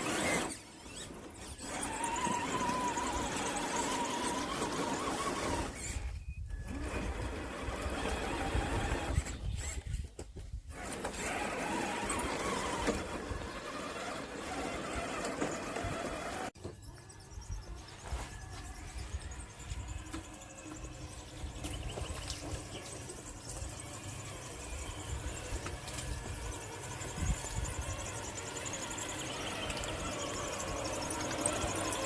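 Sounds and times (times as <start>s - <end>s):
toy car electric motor whine: 0.0s - 10.0s, 10.7s - 32.0s.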